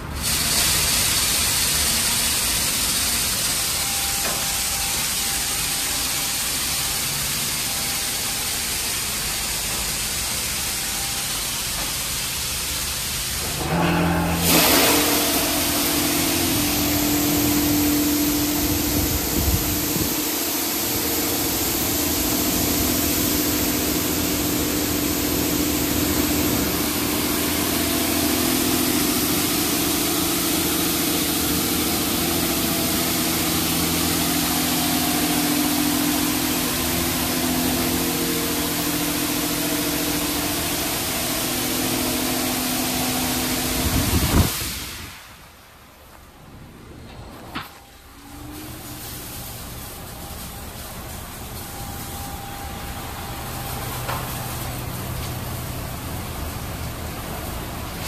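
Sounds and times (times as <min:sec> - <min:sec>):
high-pressure water spray hissing: 0:00.0 - 0:45.9, 0:48.2 - 0:58.0
car wash machine hum: 0:00.0 - 0:58.0.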